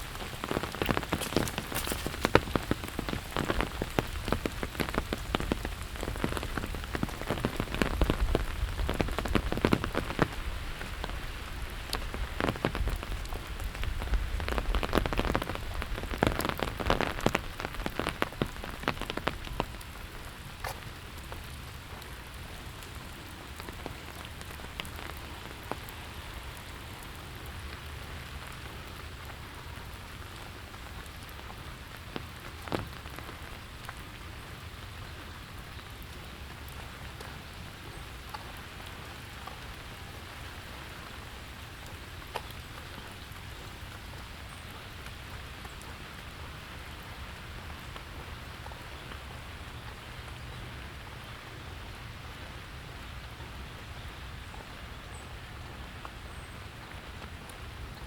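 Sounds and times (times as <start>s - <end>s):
sharp raindrops hitting surfaces: 0.0s - 58.0s
steady rain falling: 0.0s - 58.0s.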